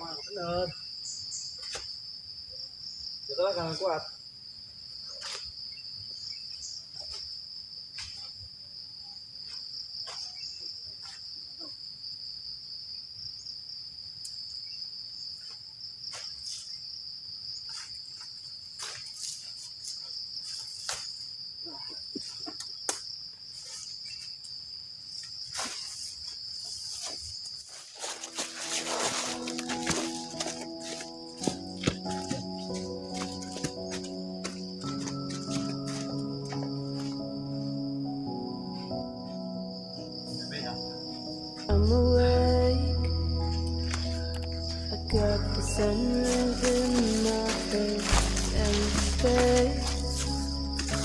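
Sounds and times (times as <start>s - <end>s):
crickets droning: 0.0s - 51.0s.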